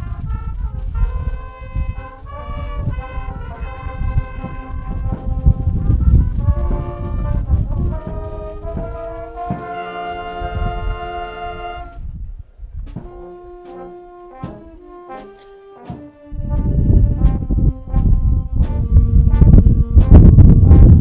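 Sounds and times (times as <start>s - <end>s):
concert band playing chords: 0.0s - 11.9s, 13.0s - 20.4s.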